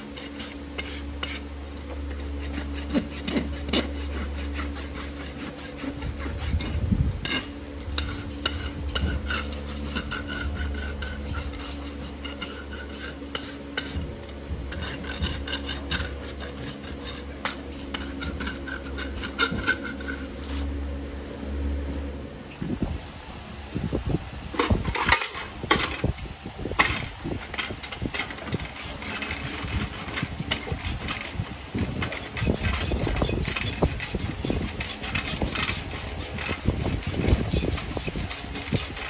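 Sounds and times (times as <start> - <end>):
hoof rasp scraping hoof: 0.0 - 22.3, 24.5 - 39.0
barn fan humming: 0.0 - 39.0.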